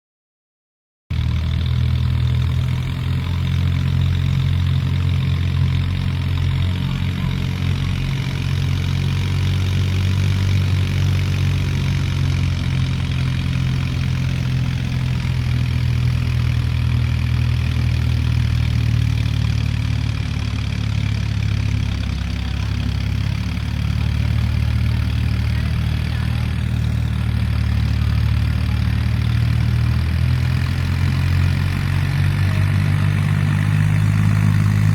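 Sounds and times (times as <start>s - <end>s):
tractor diesel engine running: 1.1s - 34.9s.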